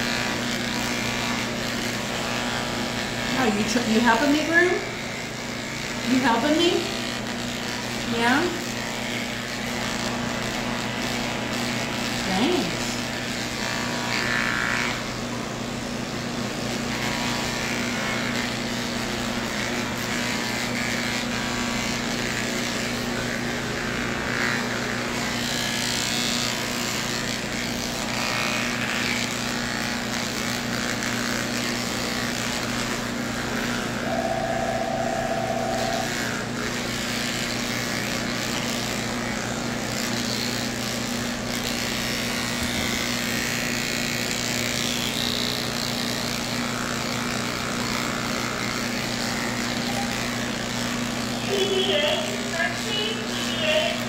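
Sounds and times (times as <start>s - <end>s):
electric clippers humming: 0.0s - 54.0s.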